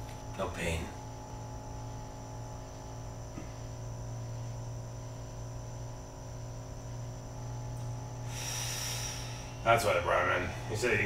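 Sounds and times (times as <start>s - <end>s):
electrical hum with high whine: 0.0s - 11.0s.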